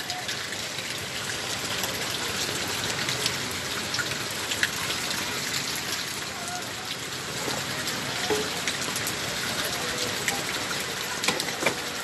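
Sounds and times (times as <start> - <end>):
raindrops ticking close by: 0.0 - 12.0
steady rain falling: 0.0 - 12.0.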